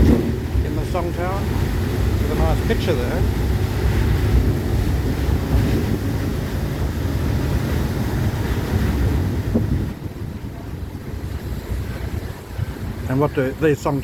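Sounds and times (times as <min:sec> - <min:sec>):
vehicle engine and road rumble: 0:00.0 - 0:14.0
wind buffeting microphone: 0:00.0 - 0:14.0.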